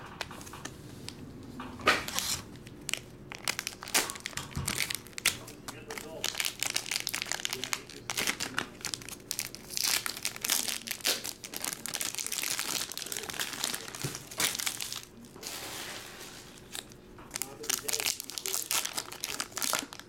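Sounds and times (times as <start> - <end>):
card pack wrappers crinkling: 1.9 - 20.0.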